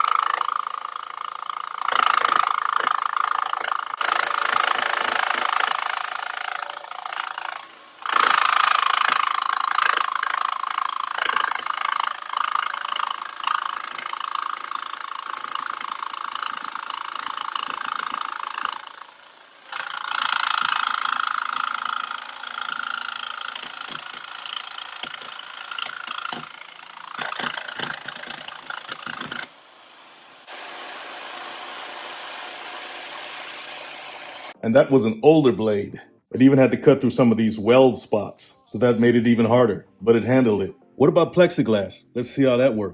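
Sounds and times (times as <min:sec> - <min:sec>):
jigsaw cutting sheet metal: 0:00.0 - 0:34.6.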